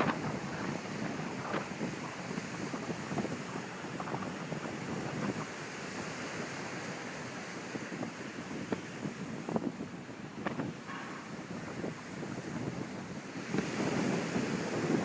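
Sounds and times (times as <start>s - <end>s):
ocean waves washing at shore: 0.0s - 15.0s.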